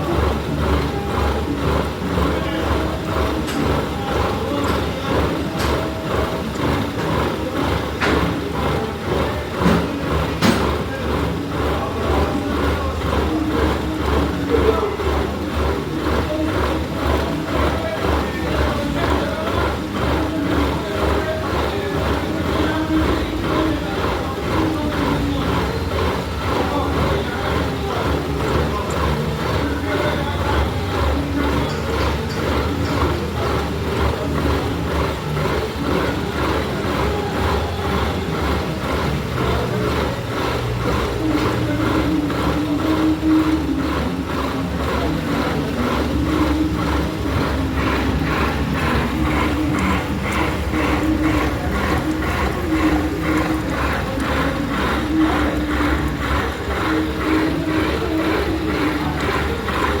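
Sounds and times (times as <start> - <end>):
lathe rhythmic clatter: 0.0 - 60.0.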